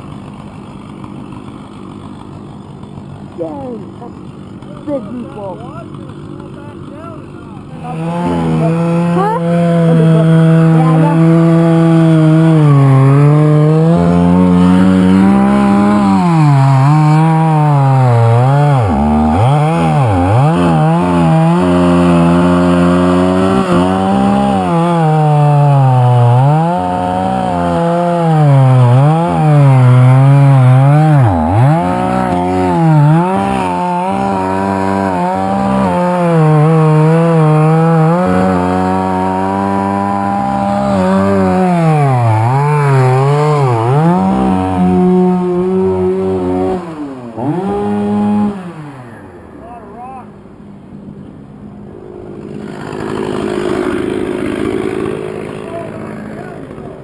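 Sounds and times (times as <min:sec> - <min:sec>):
chainsaw cutting wood: 0:00.0 - 0:49.8, 0:52.0 - 0:57.0.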